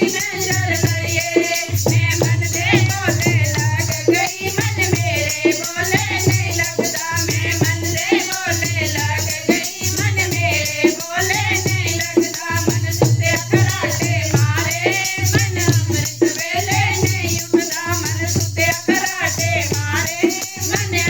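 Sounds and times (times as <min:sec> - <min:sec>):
percussion strokes: 0:00.0 - 0:21.0.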